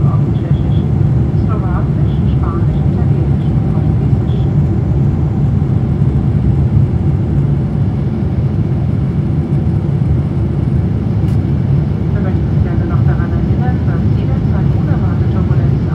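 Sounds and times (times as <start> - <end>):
jet engine cabin rumble: 0.0 - 15.9.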